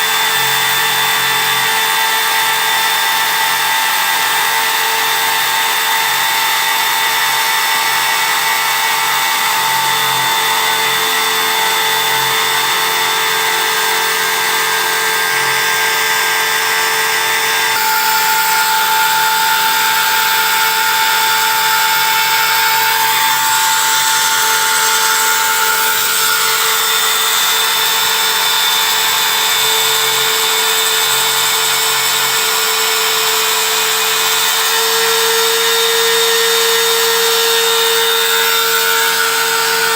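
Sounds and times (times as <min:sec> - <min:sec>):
engraving machine whining: 0:00.0 - 0:39.9.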